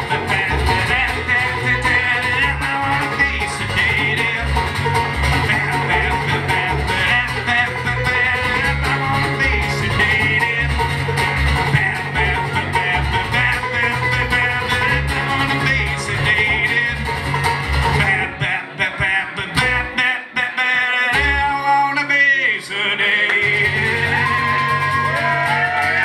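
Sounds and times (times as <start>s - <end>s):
man singing: 0.0s - 17.2s, 17.8s - 26.0s
strummed acoustic guitar: 0.0s - 22.1s, 23.3s - 26.0s
acoustic bass guitar: 0.0s - 26.0s
banjo picking: 0.0s - 26.0s.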